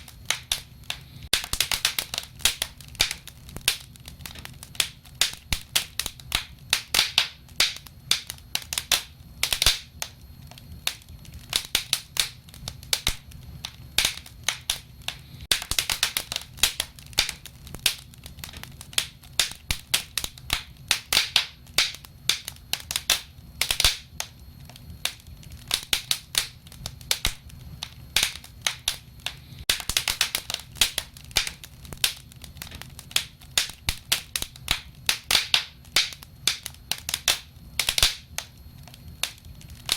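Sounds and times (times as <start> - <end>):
sharp pops and snaps: 0.0 - 39.9
wood fire crackling: 0.0 - 39.9.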